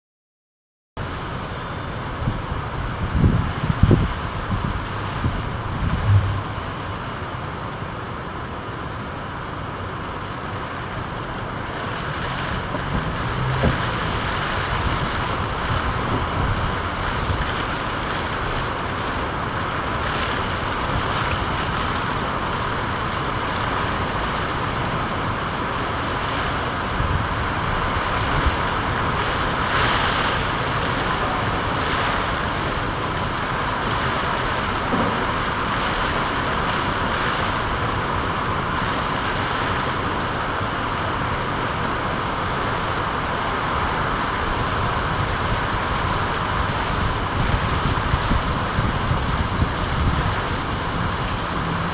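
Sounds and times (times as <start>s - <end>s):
steady rain: 1.0s - 51.9s.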